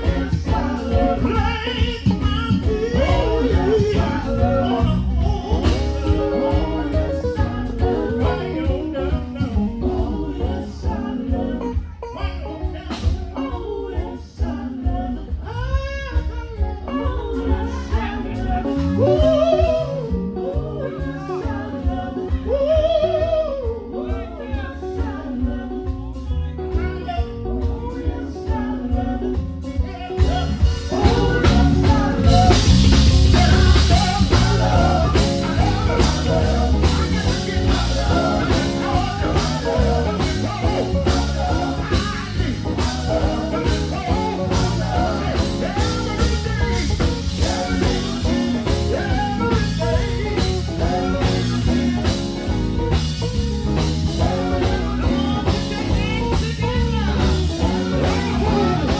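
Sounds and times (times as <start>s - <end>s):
bass guitar: 0.0s - 58.9s
drums playing a steady beat: 0.0s - 58.9s
electric guitar: 0.0s - 58.9s
men singing: 0.0s - 58.9s.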